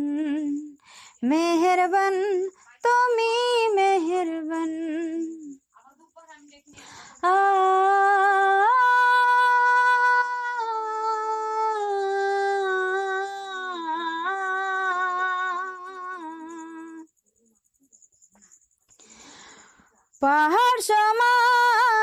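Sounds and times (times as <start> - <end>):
woman singing wordless vocalise: 0.0 - 5.6, 6.7 - 17.1, 20.2 - 22.0.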